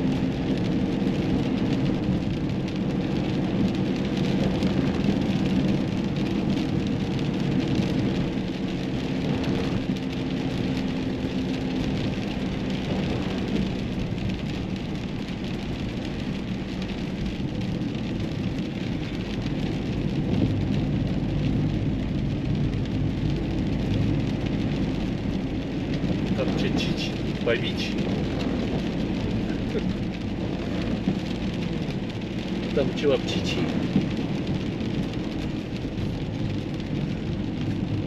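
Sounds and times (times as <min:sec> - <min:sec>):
low engine hum: 0:00.0 - 0:38.0
tyre noise on road: 0:00.0 - 0:38.0.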